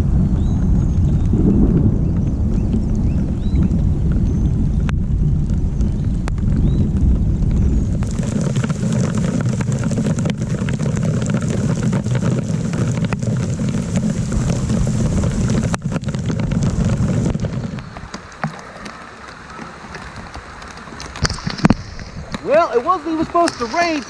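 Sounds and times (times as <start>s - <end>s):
rain and hail pelting: 0.0s - 24.0s
steady low rumble: 0.0s - 24.0s.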